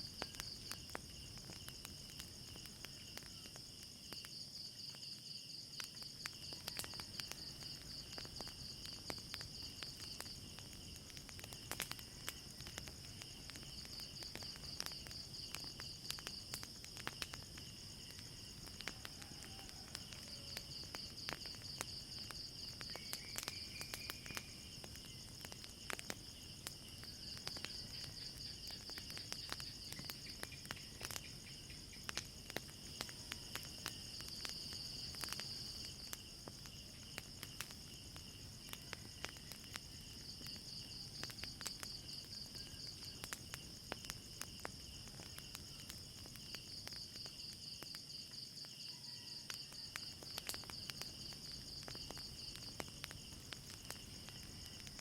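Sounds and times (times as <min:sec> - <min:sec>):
crickets chirping: 0:00.0 - 0:55.0
fire crackling and popping: 0:00.0 - 0:55.0.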